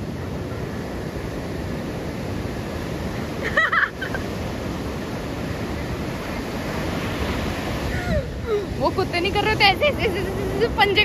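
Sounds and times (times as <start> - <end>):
surf breaking on beach: 0.0 - 11.0.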